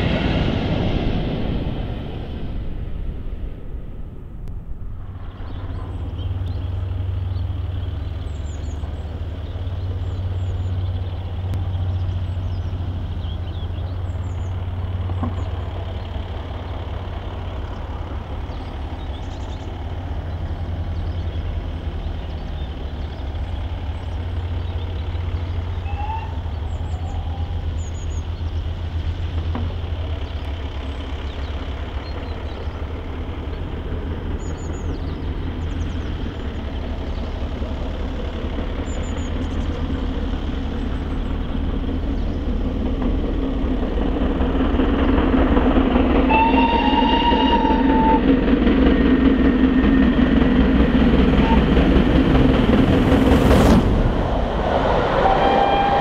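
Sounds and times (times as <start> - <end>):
heavy engine idling: 0.0 - 54.8.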